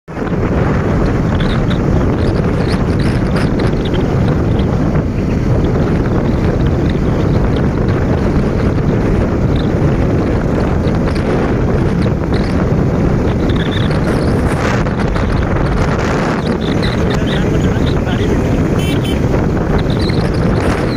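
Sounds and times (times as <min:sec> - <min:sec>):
wind buffeting microphone: 0:00.1 - 0:20.9
motorcycle engine: 0:00.2 - 0:20.9.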